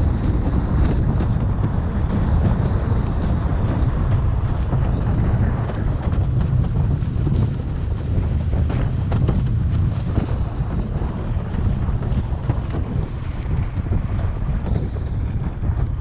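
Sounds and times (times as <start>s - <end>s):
water rushing past board: 0.0s - 16.0s
wind buffeting microphone: 0.0s - 16.0s.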